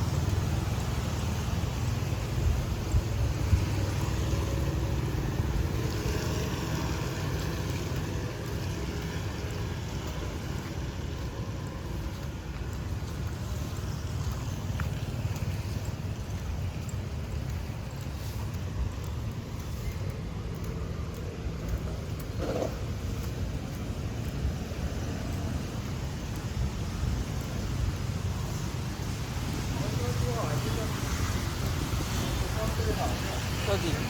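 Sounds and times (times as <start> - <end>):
vehicle engines passing: 0.0 - 34.0
wind buffeting microphone: 0.0 - 34.0.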